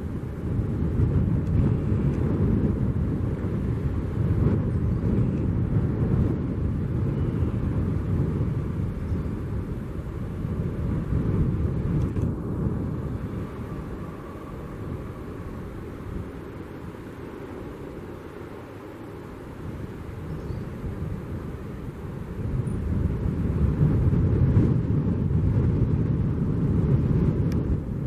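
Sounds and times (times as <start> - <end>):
faint engine whine: 0.0 - 28.0
jet engines rumbling: 0.0 - 28.0.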